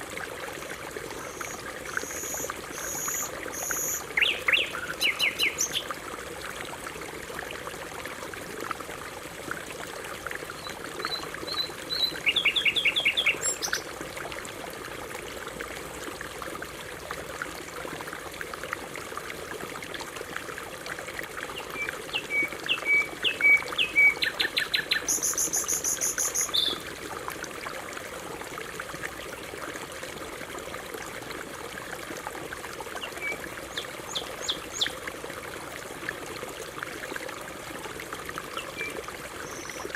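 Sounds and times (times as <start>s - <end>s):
trickle of flowing water: 0.0s - 39.9s.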